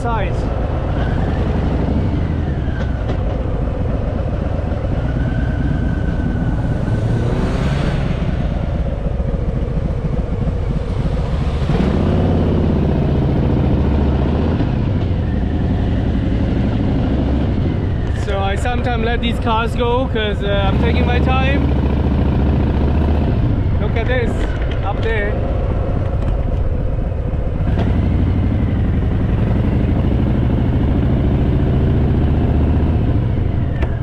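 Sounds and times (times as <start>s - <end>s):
motorcycle engine running: 0.0s - 34.0s
road noise: 0.0s - 34.0s.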